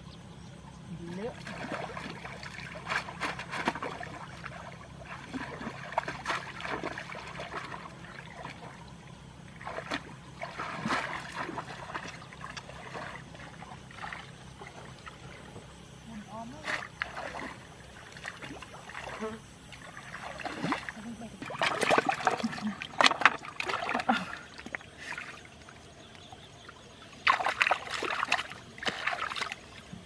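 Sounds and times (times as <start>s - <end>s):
steady low hum: 0.0s - 30.0s
shallow water splashing: 1.2s - 30.0s.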